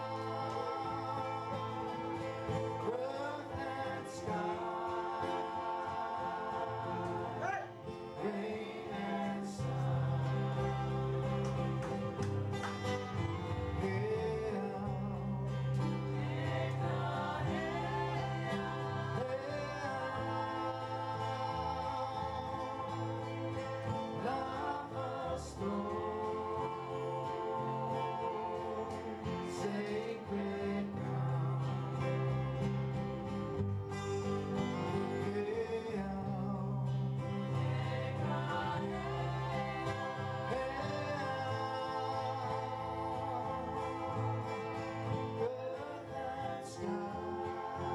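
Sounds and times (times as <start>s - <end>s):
women singing together: 0.0s - 7.4s, 8.0s - 12.2s, 15.8s - 32.5s, 37.2s - 47.9s
plucked strings: 0.0s - 47.9s.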